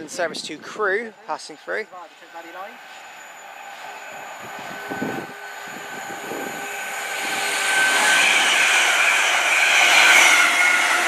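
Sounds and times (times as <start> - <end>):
electric train passing at speed: 0.0 - 11.0
high whine: 0.0 - 11.0.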